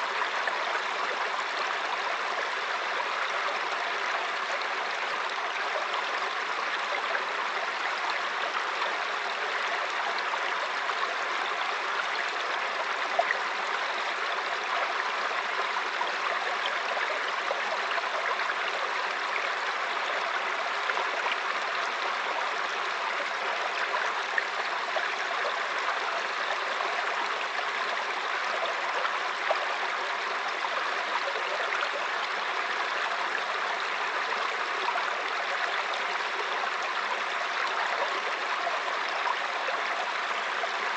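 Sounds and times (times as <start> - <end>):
brook flowing over rocks: 0.0 - 40.9.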